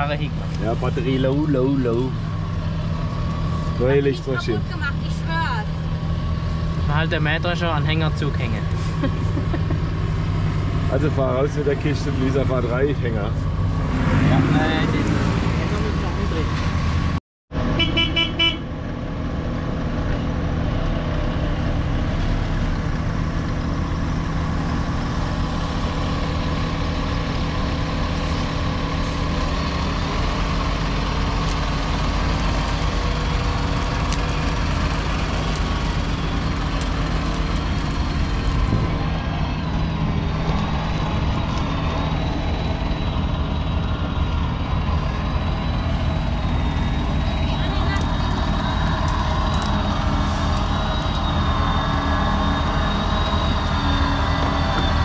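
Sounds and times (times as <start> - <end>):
tractor diesel engine running: 0.0 - 13.9, 15.7 - 55.0.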